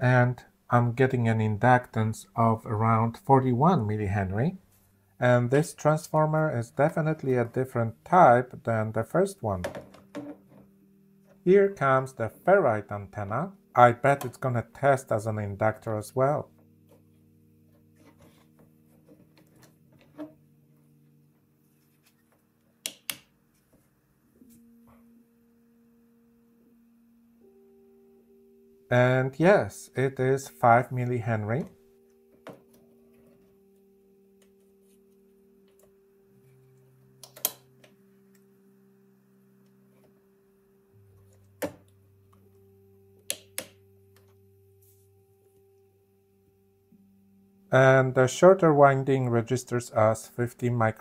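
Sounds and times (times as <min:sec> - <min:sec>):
slow ambient music: 0:00.0 - 0:51.0.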